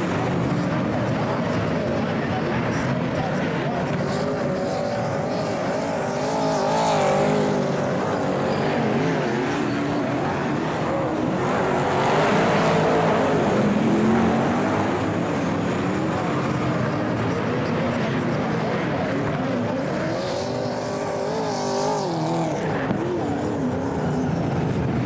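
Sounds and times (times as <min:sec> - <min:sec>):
race cars revving past: 0:00.0 - 0:25.0.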